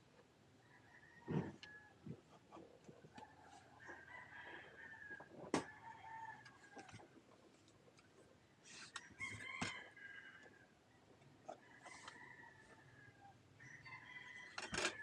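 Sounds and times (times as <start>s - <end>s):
rooster crowing faintly: 0.6s - 2.4s, 3.0s - 7.1s, 8.6s - 15.0s.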